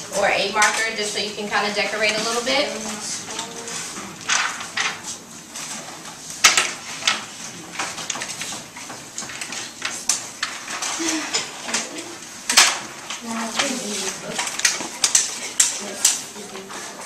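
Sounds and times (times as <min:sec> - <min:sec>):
markers and papers set on desks: 0:02.0 - 0:17.0.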